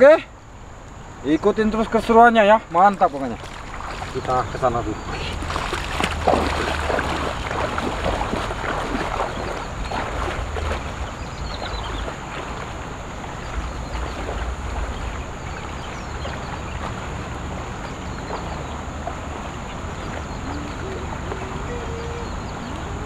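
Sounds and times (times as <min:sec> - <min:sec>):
feet wading through water: 0:02.7 - 0:23.0
wind rumble on microphone: 0:03.3 - 0:23.0.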